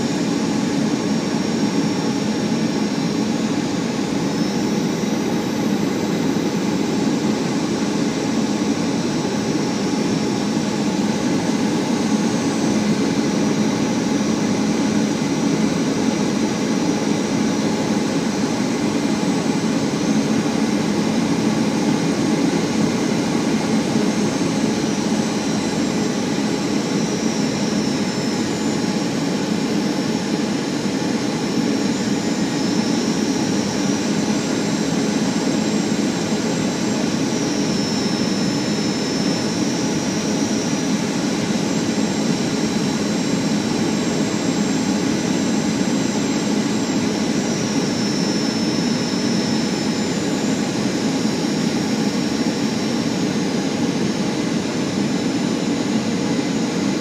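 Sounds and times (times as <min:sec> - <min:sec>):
faint high whine: 0:00.0 - 0:57.0
jet engines droning in cabin: 0:00.0 - 0:57.0.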